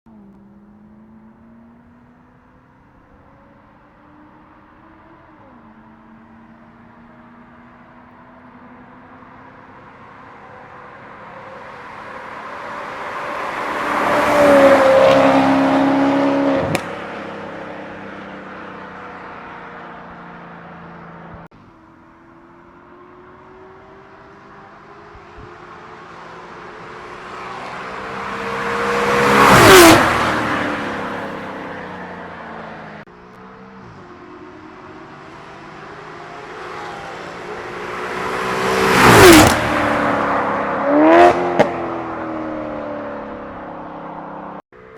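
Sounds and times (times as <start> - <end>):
car accelerating past: 3.4 - 21.4, 22.9 - 44.6.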